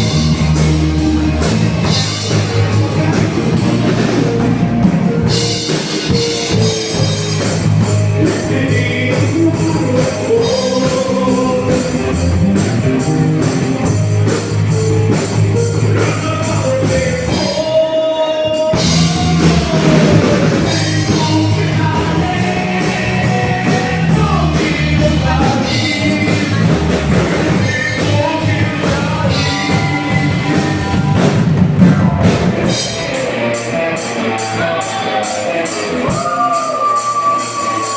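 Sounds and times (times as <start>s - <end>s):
person singing: 0.0s - 14.0s, 14.7s - 31.4s, 34.0s - 37.9s
drums: 0.0s - 37.9s
live rock band playing: 0.0s - 37.9s.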